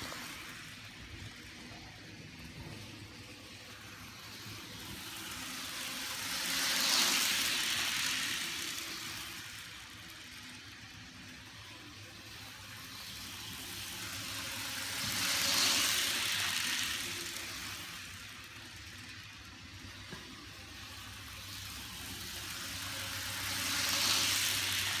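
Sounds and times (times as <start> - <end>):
model train whirring: 0.0 - 25.0.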